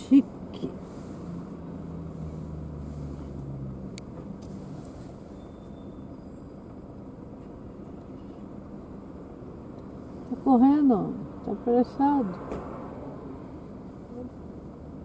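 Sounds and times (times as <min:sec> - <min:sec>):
car engine idling hum: 0:00.0 - 0:15.0.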